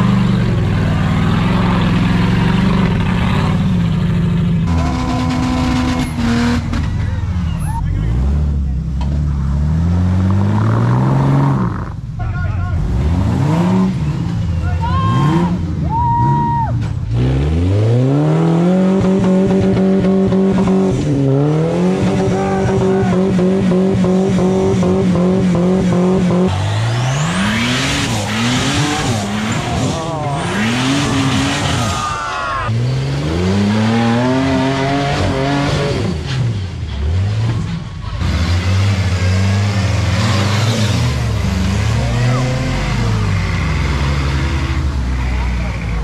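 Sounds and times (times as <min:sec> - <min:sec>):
buggy engine revving: 0:00.0 - 0:46.0.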